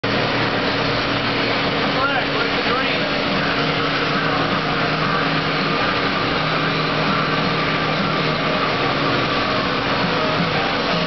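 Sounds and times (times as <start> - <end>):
machinery running: 0.0 - 11.0.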